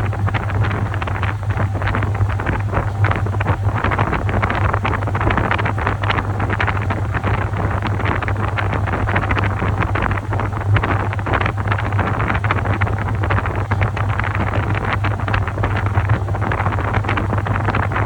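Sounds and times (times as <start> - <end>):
washing machine motor hum: 0.0 - 18.0
water and laundry sloshing: 0.0 - 18.0.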